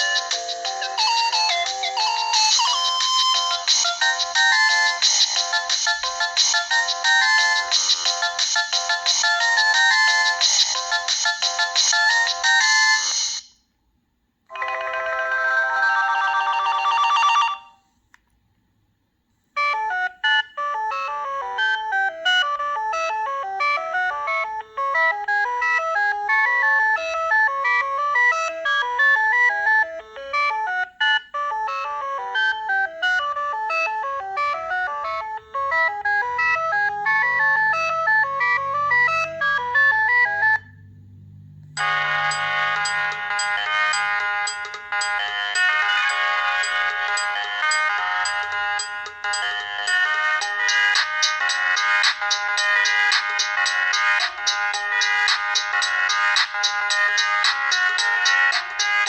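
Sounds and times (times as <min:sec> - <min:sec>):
mobile phone ringtones: 0:00.0 - 0:13.5, 0:14.5 - 0:17.8, 0:19.6 - 0:40.7, 0:41.8 - 0:59.0
synthesized ringtone melody: 0:00.0 - 0:13.5, 0:14.5 - 0:17.8, 0:19.6 - 0:40.8, 0:41.8 - 0:59.0.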